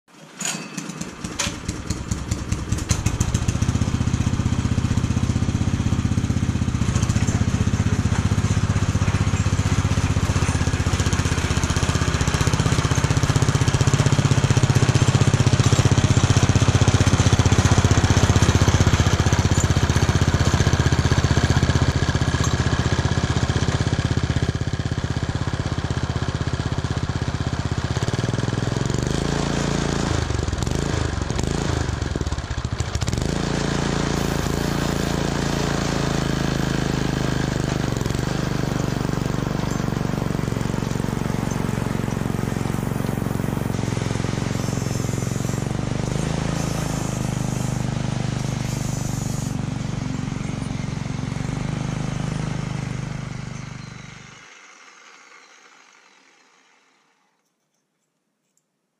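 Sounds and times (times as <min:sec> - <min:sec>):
small engine running: 0:00.4 - 0:57.7.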